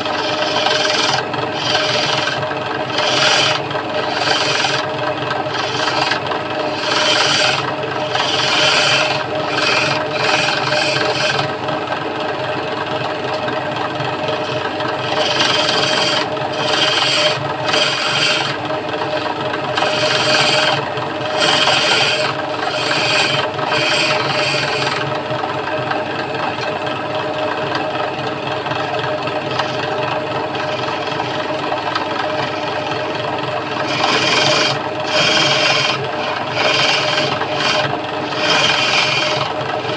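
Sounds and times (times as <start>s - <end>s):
cutting tool scraping wood: 0.0s - 11.8s, 14.0s - 25.5s, 28.7s - 39.9s
wood lathe motor hum: 0.0s - 39.9s.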